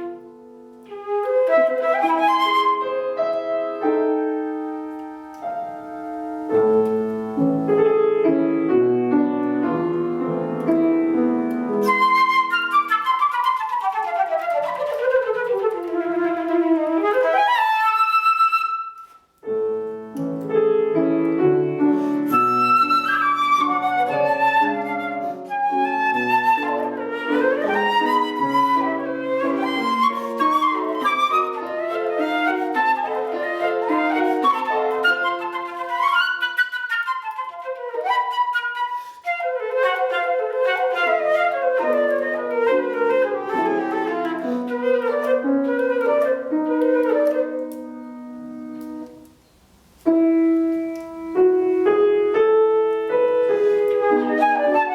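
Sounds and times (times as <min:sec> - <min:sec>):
flute melody: 0:00.0 - 0:49.3, 0:50.1 - 0:54.9
piano accompaniment: 0:00.0 - 0:54.9.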